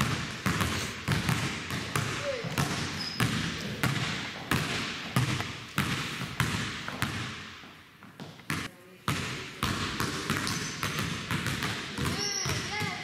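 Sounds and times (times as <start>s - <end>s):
basketball bouncing on wooden floor: 0.0s - 13.0s.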